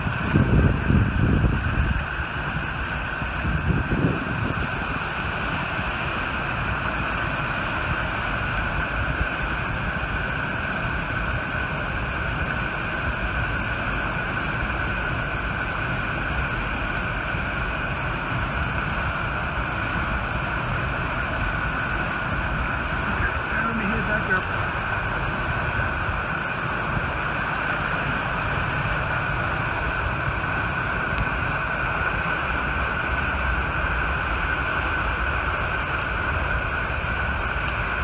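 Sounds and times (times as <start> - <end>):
river rapids churning: 0.0 - 38.0.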